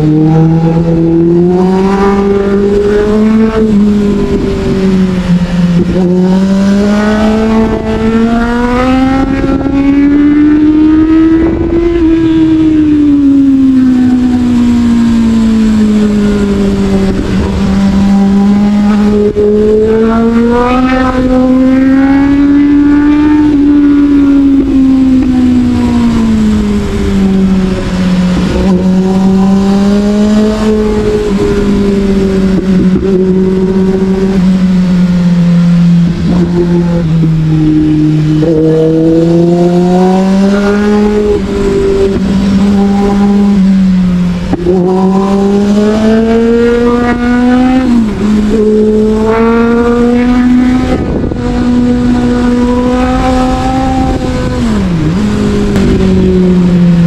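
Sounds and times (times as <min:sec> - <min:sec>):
motorcycle engine accelerating: 0:00.0 - 0:57.0
wind noise: 0:00.0 - 0:57.0.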